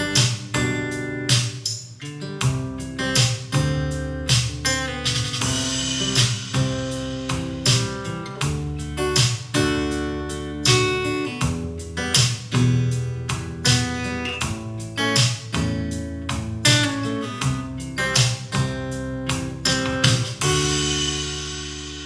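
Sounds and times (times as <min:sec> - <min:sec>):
acoustic guitar music over speakers: 0:00.0 - 0:22.0.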